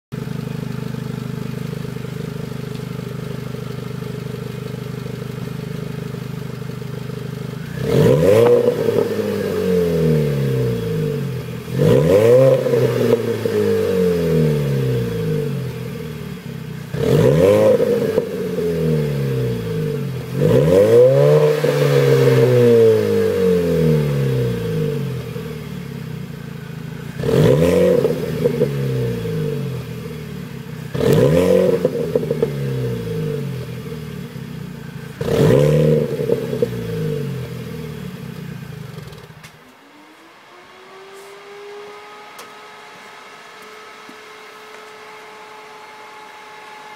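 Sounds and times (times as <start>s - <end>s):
car engine idling and revving: 0.1s - 46.9s.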